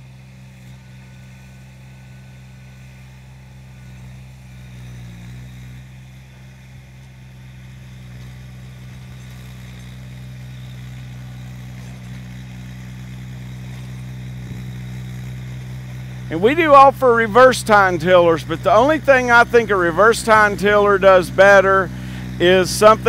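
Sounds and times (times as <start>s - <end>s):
rototiller churning soil: 0.0s - 23.0s
tractor engine running: 0.0s - 23.0s.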